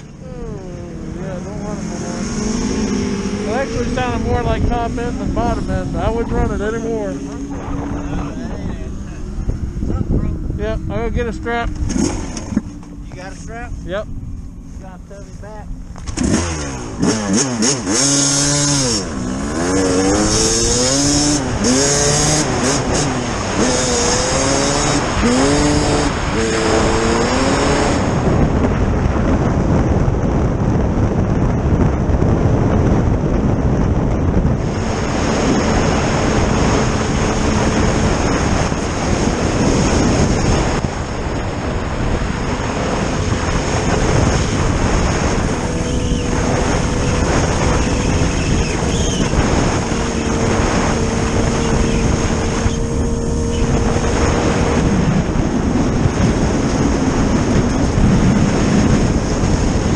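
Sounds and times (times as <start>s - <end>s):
vehicle engine running: 0.0s - 59.9s
wind noise on microphone: 0.0s - 59.9s.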